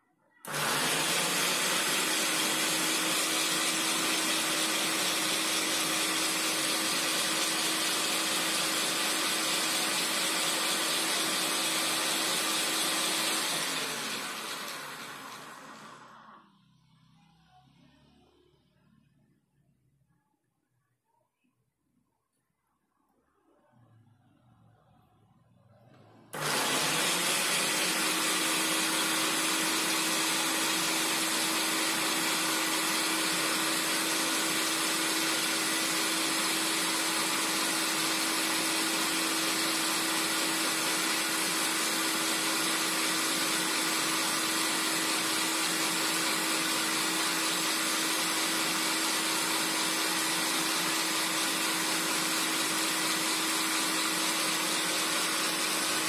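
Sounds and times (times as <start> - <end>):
food processor motor running: 0.4 - 16.4, 25.8 - 56.0.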